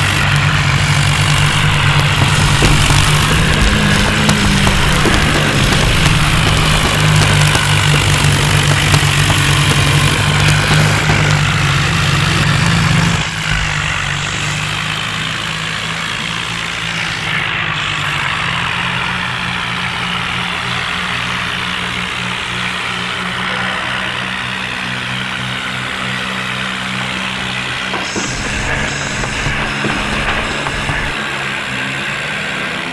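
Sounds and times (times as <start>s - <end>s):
diesel tractor engine running: 0.0s - 32.9s.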